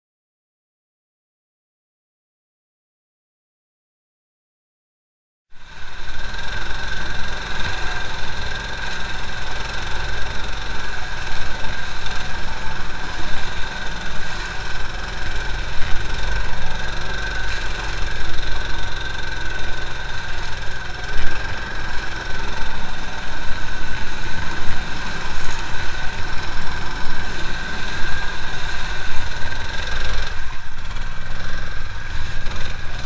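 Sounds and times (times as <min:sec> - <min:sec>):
engine running: 0:05.5 - 0:33.0
high whine: 0:05.6 - 0:33.0.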